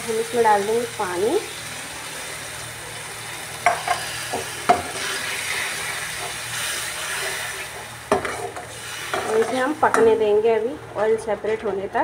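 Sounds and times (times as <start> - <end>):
sizzling in a pan: 0.0 - 12.0.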